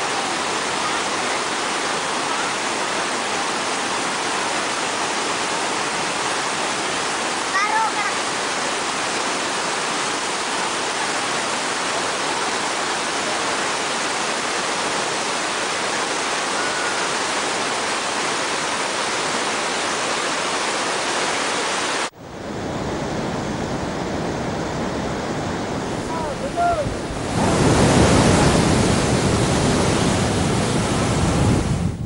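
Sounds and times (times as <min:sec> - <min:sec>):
deep low rushing water: 0:00.0 - 0:32.0
water rushing from spillway: 0:00.0 - 0:32.0.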